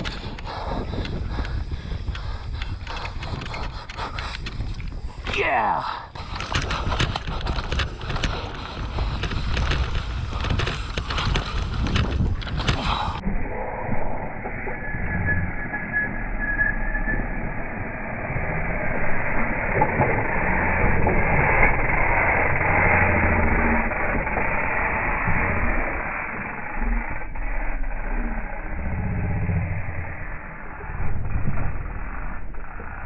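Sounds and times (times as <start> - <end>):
dull rush of noise: 0.0 - 33.0.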